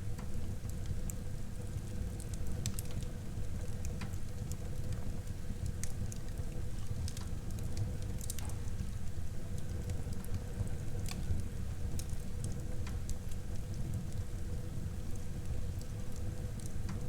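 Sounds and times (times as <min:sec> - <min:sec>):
low rumble of flame: 0:00.0 - 0:17.0
burning wood crackles and pops: 0:00.1 - 0:17.0.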